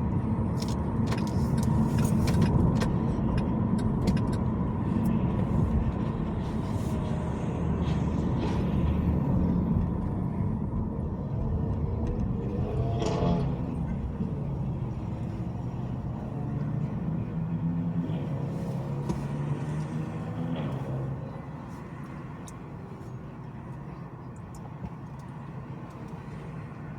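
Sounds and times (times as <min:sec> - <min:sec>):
car engine and tyres rumbling: 0:00.0 - 0:26.9.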